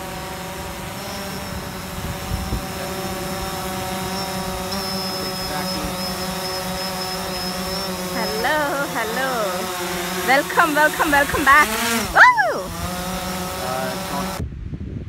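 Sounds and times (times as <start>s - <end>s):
drone propellers whining: 0.0s - 14.4s.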